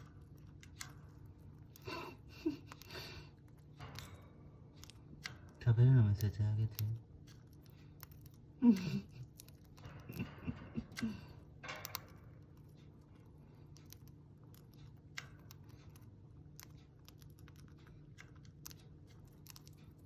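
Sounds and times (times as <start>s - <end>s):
pet crunching food: 0.0s - 20.0s.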